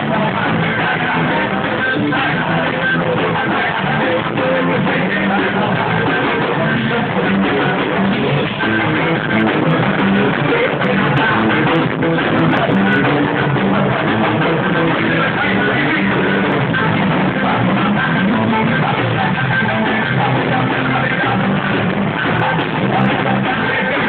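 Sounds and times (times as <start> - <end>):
guitar-led instrumental music: 0.0 - 24.0.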